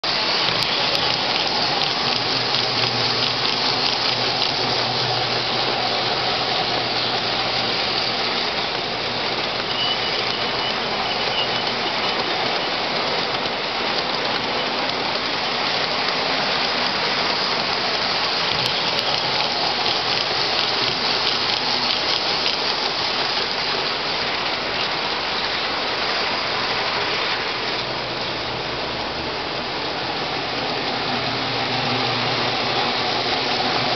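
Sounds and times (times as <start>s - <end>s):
model train wheels clattering on rails: 0.0s - 33.9s.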